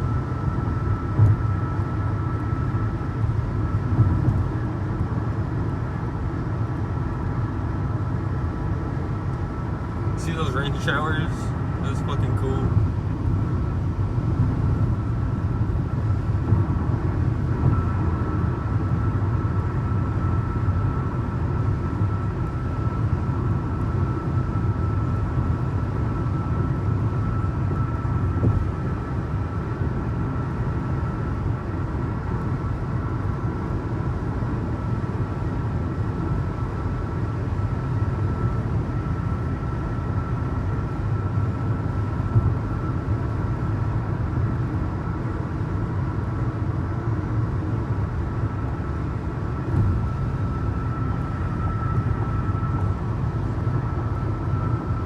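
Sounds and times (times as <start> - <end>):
faint constant whine: 0.0 - 55.0
vehicle road and engine noise: 0.0 - 55.0.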